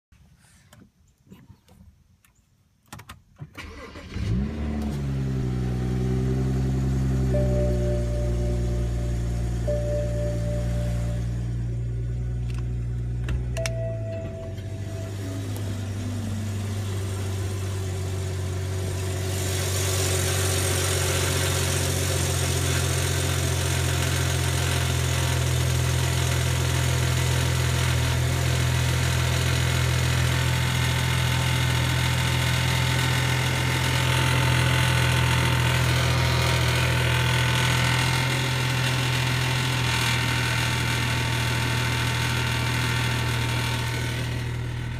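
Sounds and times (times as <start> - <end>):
low engine hum: 3.9 - 44.9.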